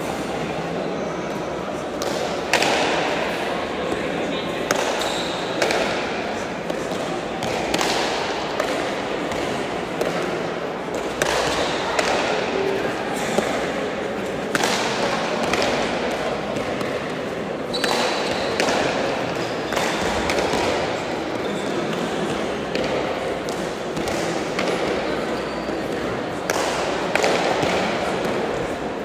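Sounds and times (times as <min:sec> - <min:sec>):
murmur of voices: 0:00.0 - 0:29.0.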